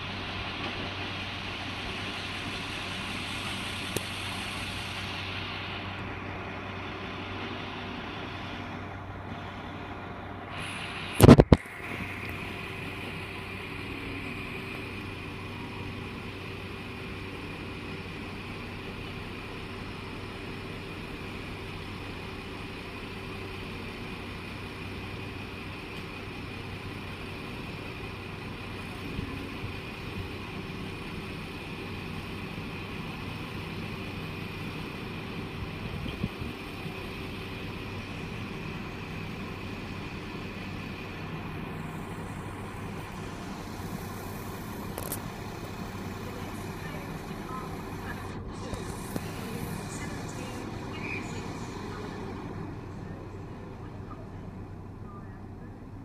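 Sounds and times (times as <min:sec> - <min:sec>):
high whine: 0:00.0 - 0:25.7, 0:26.4 - 0:56.0
diesel engine hum: 0:00.0 - 0:56.0.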